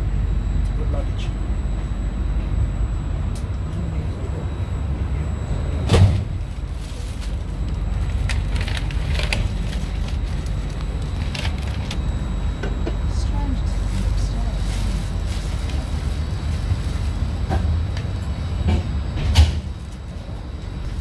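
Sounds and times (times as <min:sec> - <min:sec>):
low rumble inside train carriage: 0:00.0 - 0:21.0.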